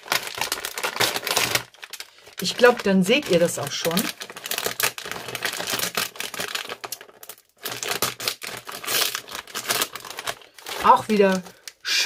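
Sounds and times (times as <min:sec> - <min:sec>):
snack bag crinkling: 0:00.0 - 0:12.0.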